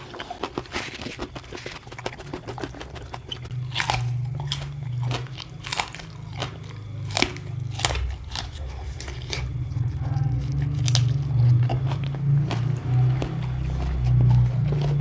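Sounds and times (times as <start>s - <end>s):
person chewing crunchy food: 0.0s - 15.0s
steady low hum: 0.0s - 15.0s.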